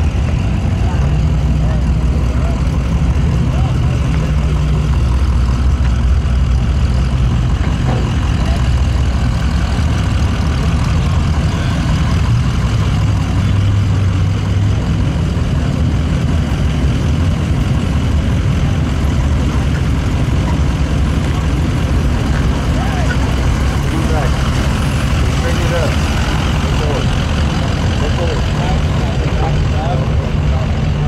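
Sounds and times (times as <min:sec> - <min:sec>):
vehicle engine idling: 0:00.0 - 0:31.0.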